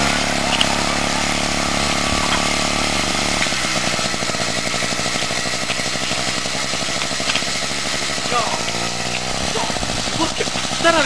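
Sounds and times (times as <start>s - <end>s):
small tractor engine running: 0.0s - 11.0s.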